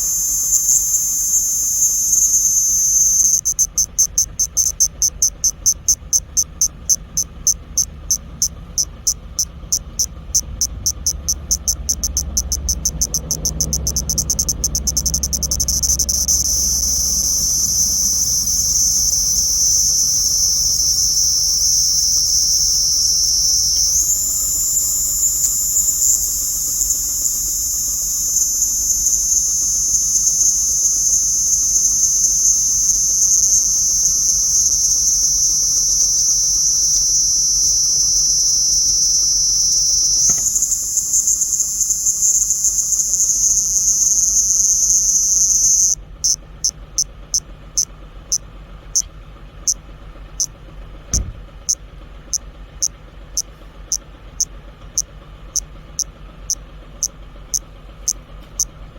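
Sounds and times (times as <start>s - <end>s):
higher cicada buzz: 0.0s - 48.4s
cicadas buzzing: 0.0s - 49.8s.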